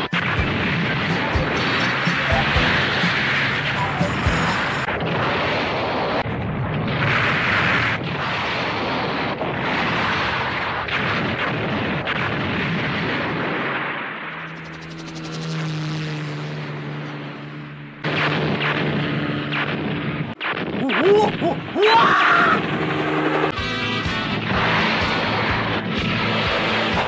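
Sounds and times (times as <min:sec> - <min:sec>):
cartoon explosion blast roar: 0:00.0 - 0:14.2, 0:18.0 - 0:25.6.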